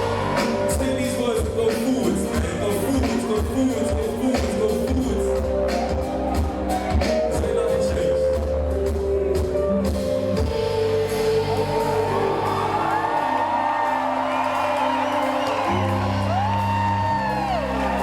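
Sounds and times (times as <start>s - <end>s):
audience whooping: 0.0s - 8.8s, 10.8s - 18.0s
hip-hop backing music: 0.0s - 18.0s.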